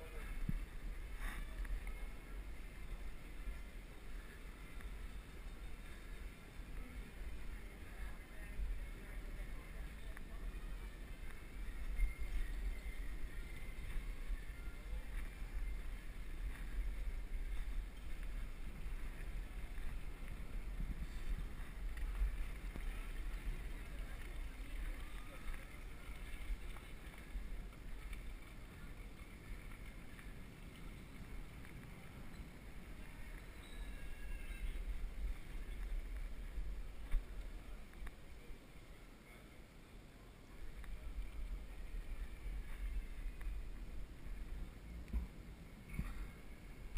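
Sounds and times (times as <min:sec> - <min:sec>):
wind noise on microphone: 0:00.0 - 0:38.6
bicycle rolling over cobblestones: 0:00.0 - 0:46.9.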